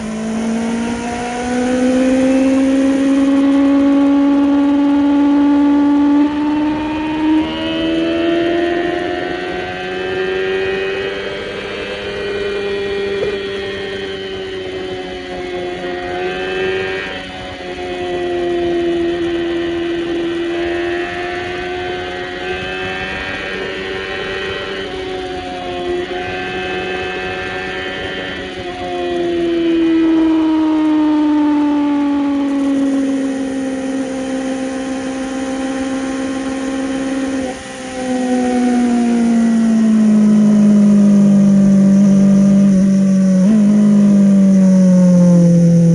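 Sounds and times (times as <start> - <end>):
motorcycle engine revving high: 0.0 - 45.9.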